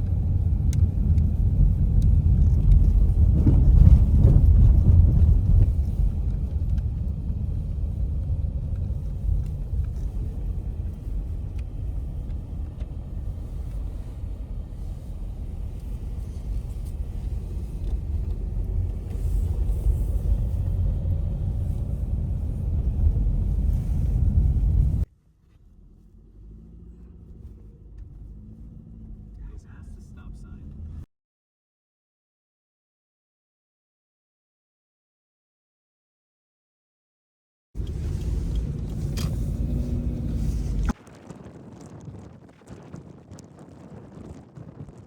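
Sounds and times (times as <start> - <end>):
low rumble: 0.0 - 31.1, 37.8 - 45.0.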